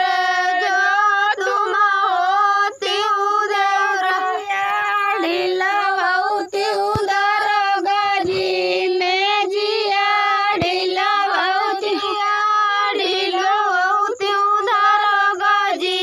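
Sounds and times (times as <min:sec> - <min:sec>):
woman singing folk song: 0:00.0 - 0:16.0.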